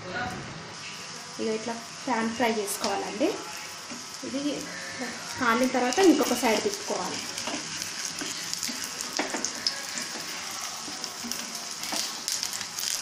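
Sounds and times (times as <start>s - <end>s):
oil sizzling in a pan: 0.7s - 13.0s.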